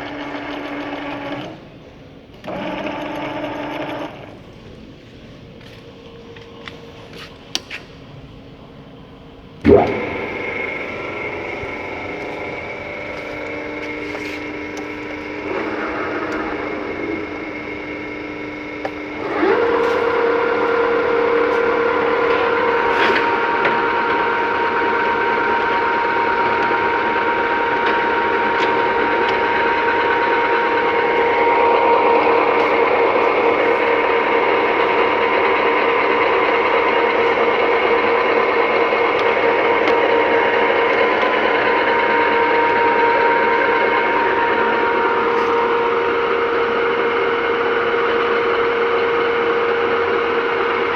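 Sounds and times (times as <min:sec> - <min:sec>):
metal lathe humming and whining: 0:00.0 - 0:07.6, 0:08.3 - 0:50.9.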